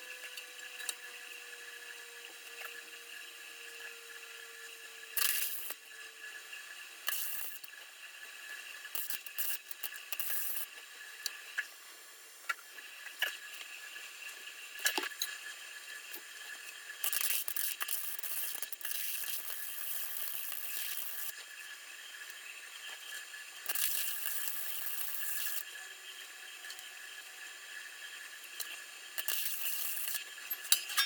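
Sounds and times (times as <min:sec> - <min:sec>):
arc welder sizzling and crackling: 0:00.0 - 0:31.0.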